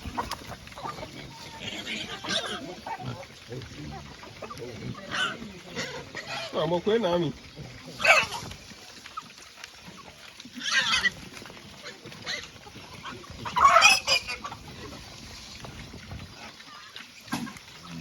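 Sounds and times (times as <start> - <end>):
pigs squealing: 0.0 - 18.0.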